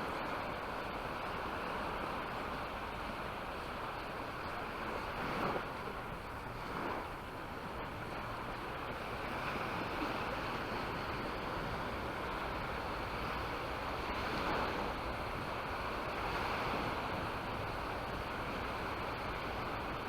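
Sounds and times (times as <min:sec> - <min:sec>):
sea waves washing onto beach: 0:00.0 - 0:20.0.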